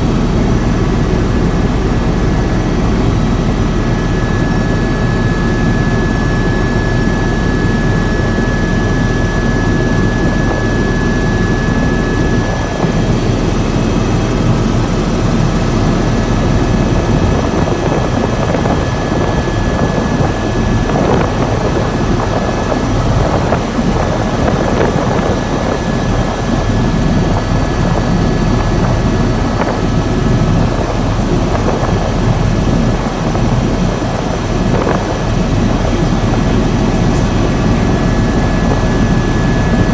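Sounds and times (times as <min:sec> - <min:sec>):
helicopter rotor and turbine drone: 0:00.0 - 0:39.9.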